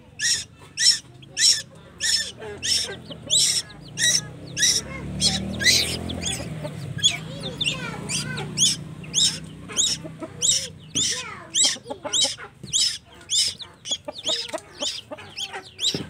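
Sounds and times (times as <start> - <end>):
chick begging calls: 0.0 - 16.0.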